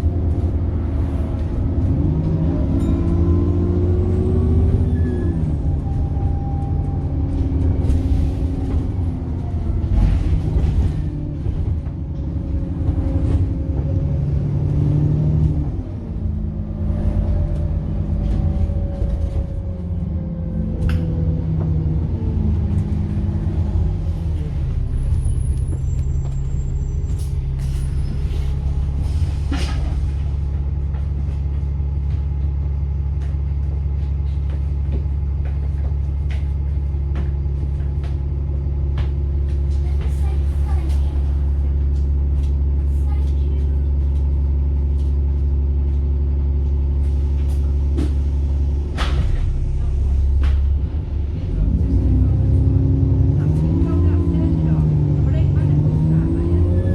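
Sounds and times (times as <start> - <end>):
bus engine: 0.0 - 56.9.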